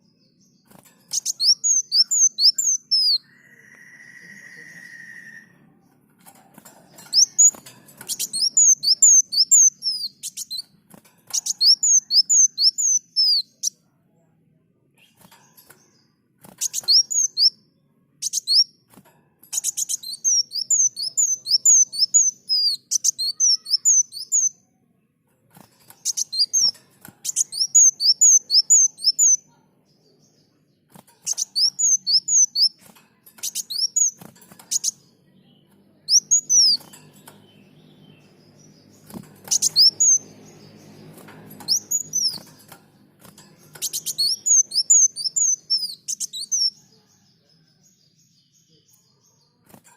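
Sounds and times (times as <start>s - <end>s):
bird chirping: 0.0s - 14.3s, 14.9s - 49.9s.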